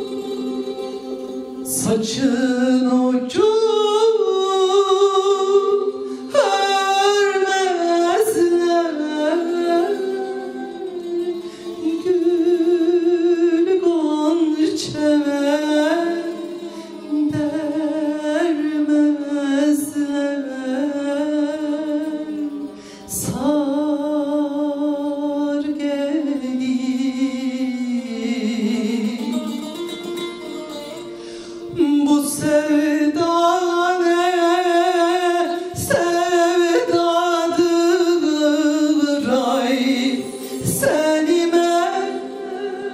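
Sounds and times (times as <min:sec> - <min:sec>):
plucked string accompaniment: 0:00.0 - 0:42.9
woman singing folk song: 0:00.0 - 0:42.9.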